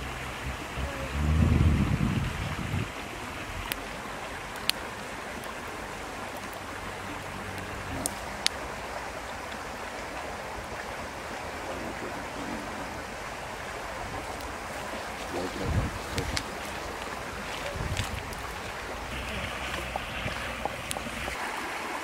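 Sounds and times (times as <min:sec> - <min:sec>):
river running over stones: 0:00.0 - 0:22.0.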